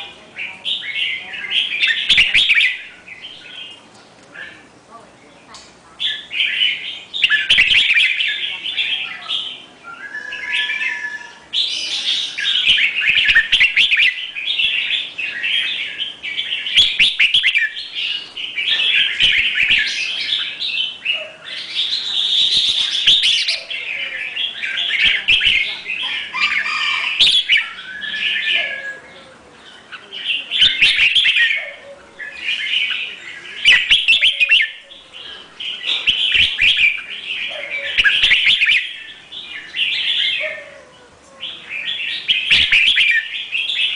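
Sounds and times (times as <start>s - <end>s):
songbird chirping and singing: 0.0s - 43.9s.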